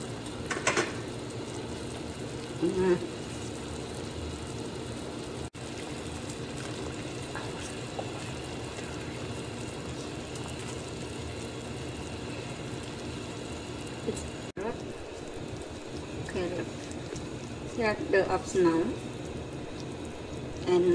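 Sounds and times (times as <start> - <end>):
soup boiling: 0.0 - 20.9.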